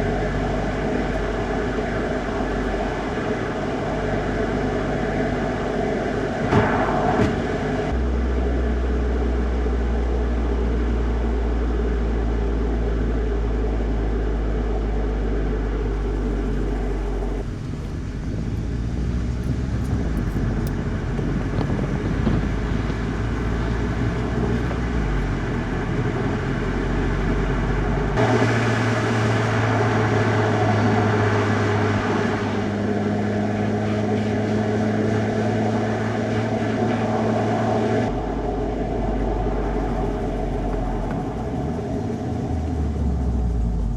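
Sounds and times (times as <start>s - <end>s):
car engine humming: 0.0s - 43.9s
tyre and road noise: 0.0s - 43.9s.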